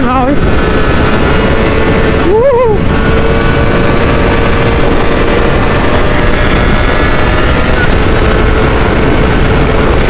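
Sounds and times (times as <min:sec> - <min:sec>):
motorcycle engine running: 0:00.0 - 0:10.0
wind rumble on microphone: 0:00.0 - 0:10.0.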